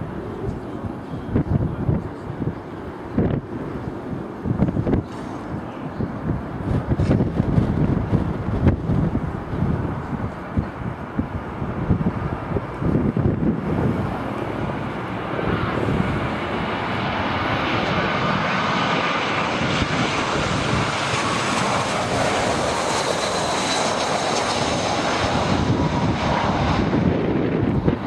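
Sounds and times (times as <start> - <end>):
jet engines whining: 0.0 - 28.0
wind buffeting microphone: 0.0 - 28.0.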